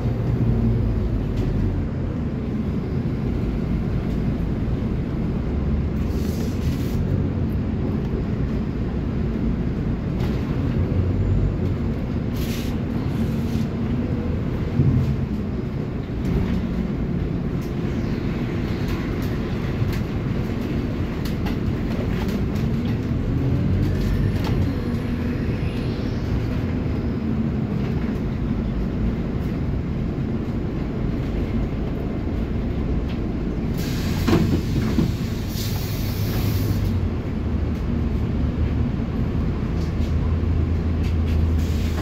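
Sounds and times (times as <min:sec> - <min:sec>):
bus engine running: 0:00.0 - 0:42.0
road and body noise: 0:00.0 - 0:42.0.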